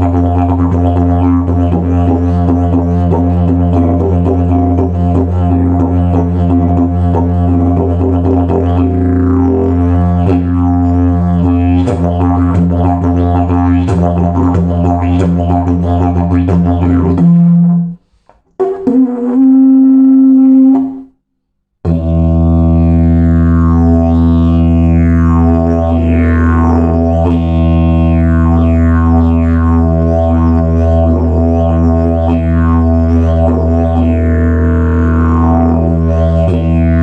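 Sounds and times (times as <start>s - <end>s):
didgeridoo drone: 0.0s - 17.9s, 21.9s - 37.0s
didgeridoo high held notes: 0.0s - 18.0s, 18.6s - 21.1s, 21.9s - 37.0s.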